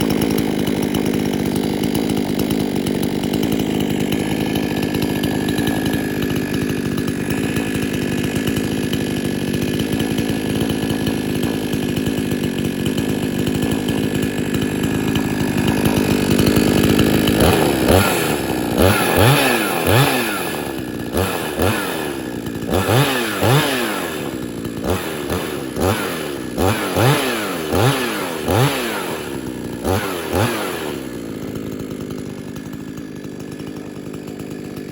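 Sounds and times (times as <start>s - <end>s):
chainsaw idling and revving: 0.0s - 34.9s.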